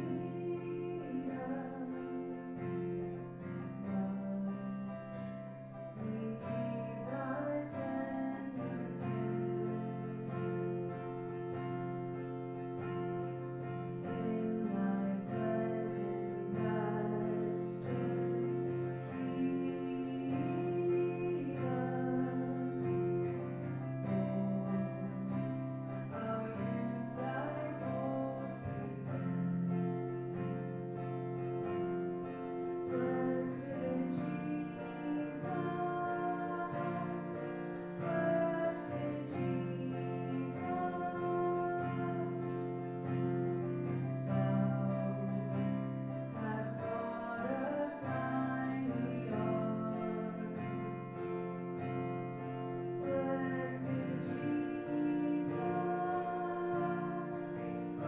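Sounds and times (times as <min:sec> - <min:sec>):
guitar music with held chords: 0:00.0 - 0:58.0.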